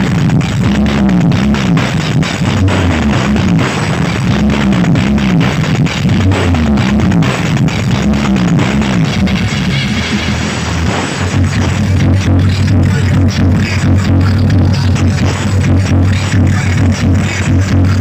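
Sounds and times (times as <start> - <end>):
heavy bass line: 0.0 - 18.0
loud music over sound system: 0.0 - 18.0.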